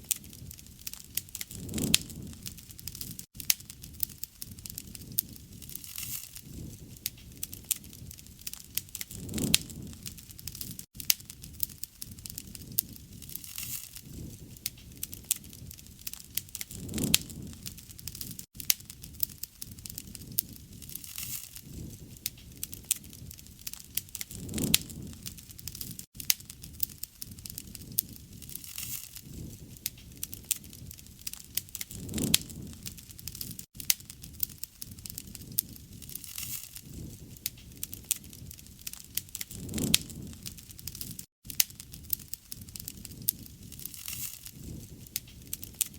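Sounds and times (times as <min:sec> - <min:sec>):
low rumble of flame: 0:00.0 - 0:45.9
wood fire crackling and popping: 0:00.0 - 0:45.9.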